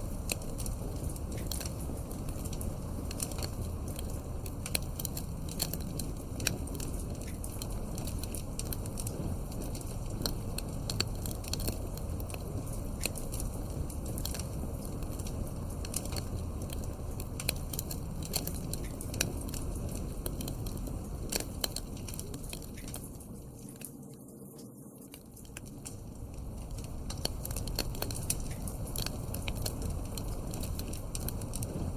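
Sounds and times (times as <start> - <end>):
fire crackling and popping: 0.0 - 31.9
flames rushing in fireplace: 0.0 - 31.9.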